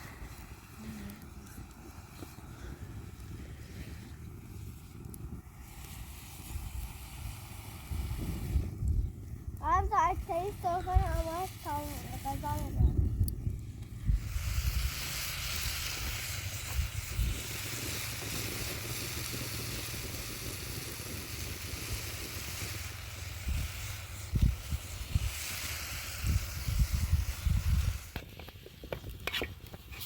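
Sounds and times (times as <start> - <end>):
strong wind hissing: 0.0 - 30.0
wind buffeting microphone: 0.0 - 30.0.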